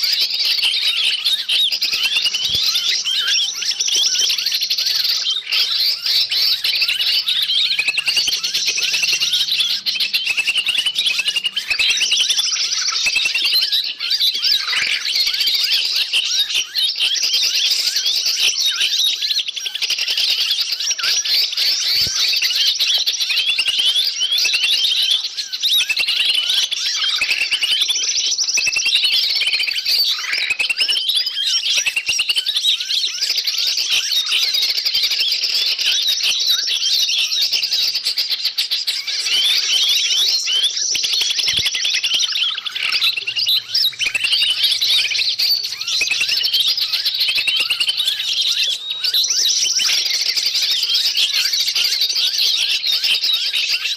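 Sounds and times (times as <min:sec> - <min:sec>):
small birds chirping and screeching: 0:00.0 - 0:53.9.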